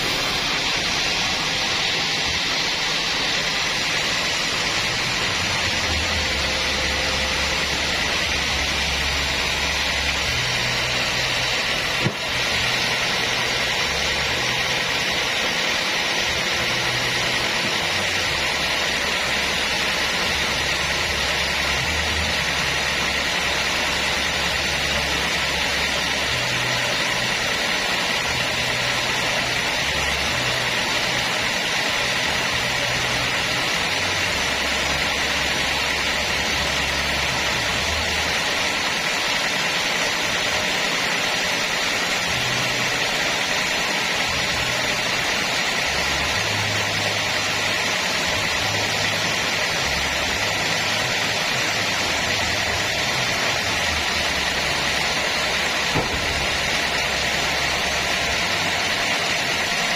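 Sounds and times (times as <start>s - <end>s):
bandsaw sawmill running: 0.0s - 59.9s.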